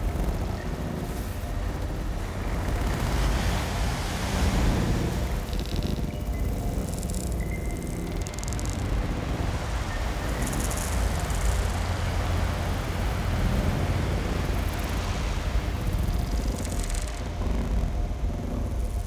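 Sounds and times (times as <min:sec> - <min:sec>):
deep rumbling drone: 0:00.0 - 0:19.0
noisy hiss: 0:00.0 - 0:19.0.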